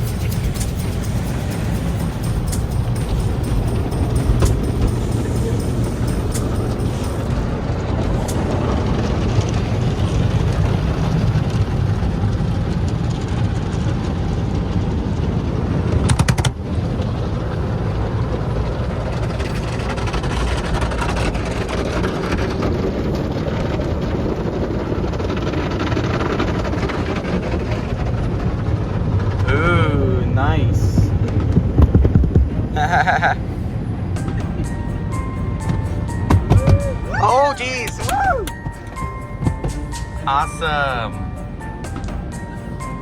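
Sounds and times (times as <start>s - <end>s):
car wash water spray and machinery: 0.0s - 36.5s
low rumble: 0.0s - 43.0s.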